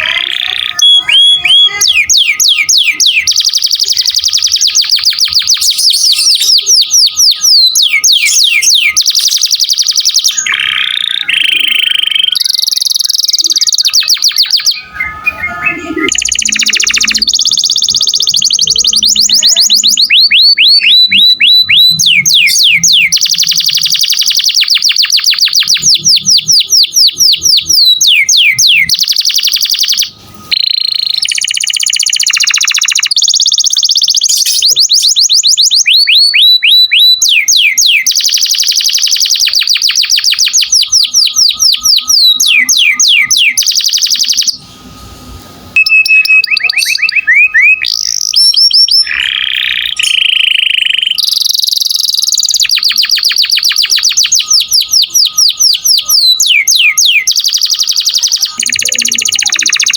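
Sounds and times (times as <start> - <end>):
canary singing in trills: 0.0 - 59.9.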